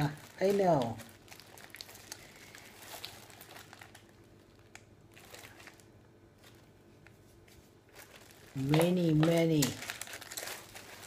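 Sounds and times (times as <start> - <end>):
gift packaging crinkling: 0.0 - 11.0.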